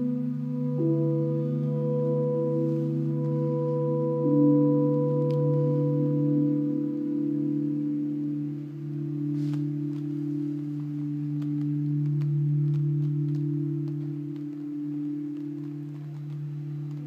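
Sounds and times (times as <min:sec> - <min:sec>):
electronic drone of layered tones: 0:00.0 - 0:17.0.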